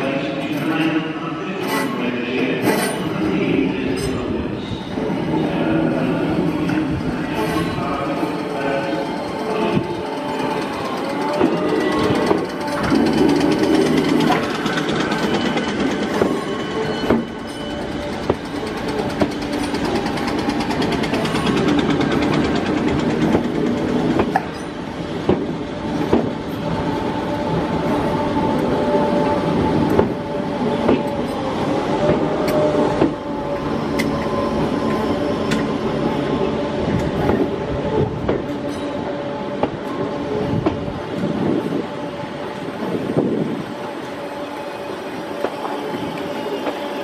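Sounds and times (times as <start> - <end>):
train running rumble and hum: 0.0 - 47.0.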